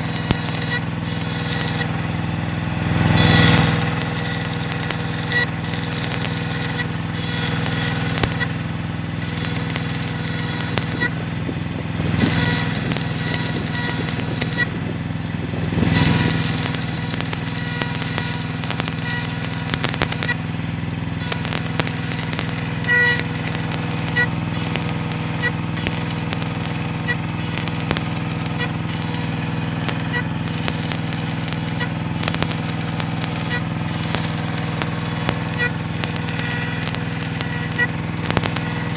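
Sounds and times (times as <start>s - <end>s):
crackles and clicks: 0.0s - 2.2s, 3.1s - 11.2s, 12.1s - 14.8s, 15.8s - 38.9s
small engine idling: 0.0s - 38.9s.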